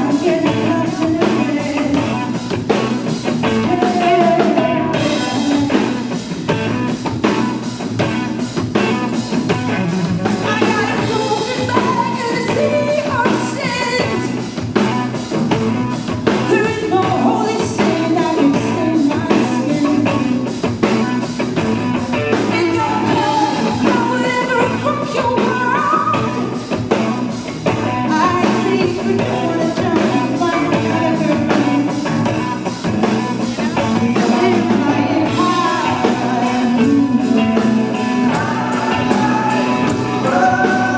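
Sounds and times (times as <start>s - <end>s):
person singing: 0.0s - 6.4s, 10.2s - 14.5s, 16.4s - 21.2s, 22.5s - 27.3s, 28.0s - 40.9s
drum kit: 0.0s - 40.9s
electric guitar: 0.0s - 40.9s.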